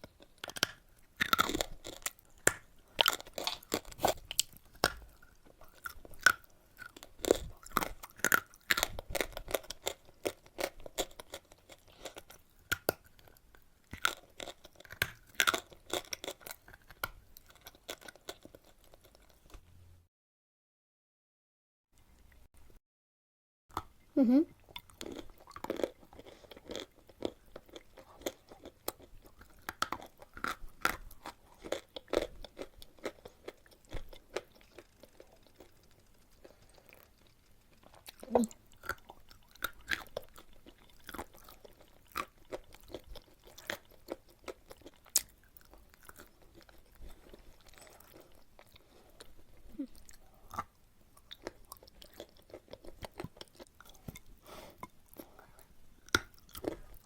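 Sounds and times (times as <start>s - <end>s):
person chewing chalk: 0.0s - 19.5s, 24.7s - 57.0s.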